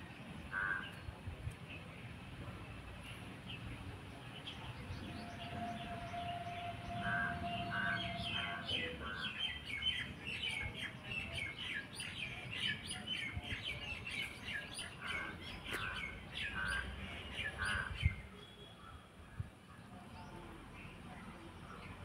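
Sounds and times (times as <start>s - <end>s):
birds chirping: 2.8s - 22.0s.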